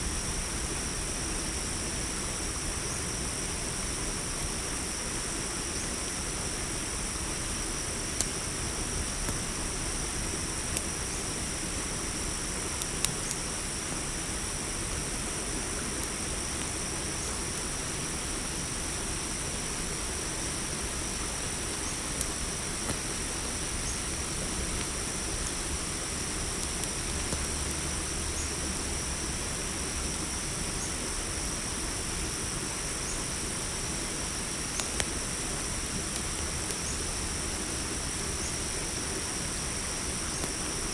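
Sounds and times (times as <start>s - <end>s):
burning wood crackling and popping: 0.0s - 40.9s
campfire hissing: 0.0s - 40.9s
crickets chirring: 0.0s - 40.9s.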